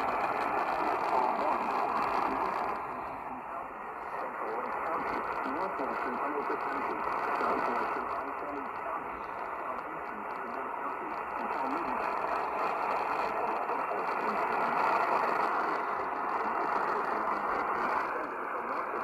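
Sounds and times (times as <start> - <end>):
faint voice on radio: 0.0 - 19.0
radio static hiss: 0.0 - 19.0.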